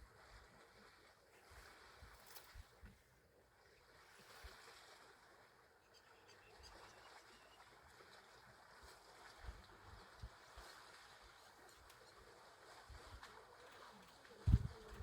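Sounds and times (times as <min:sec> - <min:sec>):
faint outdoor hiss: 0:00.2 - 0:15.0.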